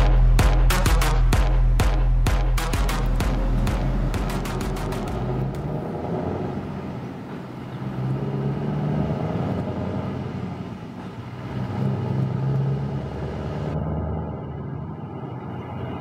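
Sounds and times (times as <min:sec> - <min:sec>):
truck diesel engine pulling away: 0:02.3 - 0:16.0.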